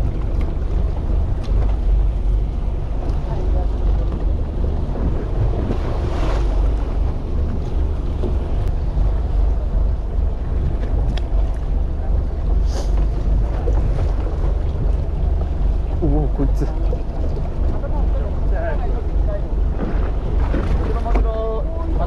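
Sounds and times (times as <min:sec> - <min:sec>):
fishing boat engine rumble: 0:00.0 - 0:22.0
sea water washing: 0:00.0 - 0:22.0
wind buffeting microphone: 0:00.0 - 0:22.0.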